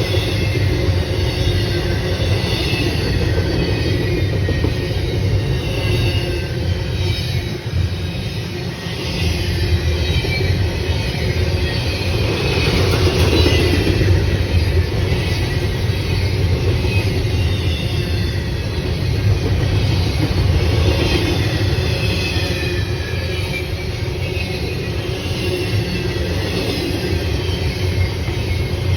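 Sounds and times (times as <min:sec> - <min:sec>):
train rumbling on rails: 0:00.0 - 0:28.9.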